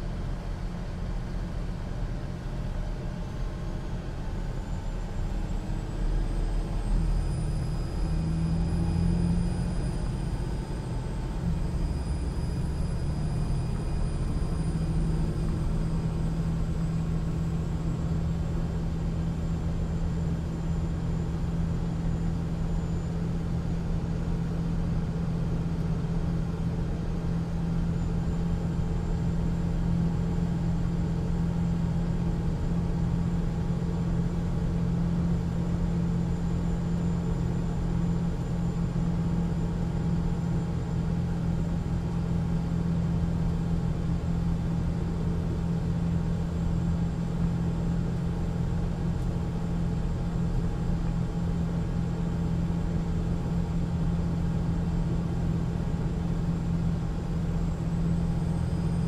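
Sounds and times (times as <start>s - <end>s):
diesel truck engine drone: 0.0s - 59.0s
faint high whine: 4.0s - 59.0s.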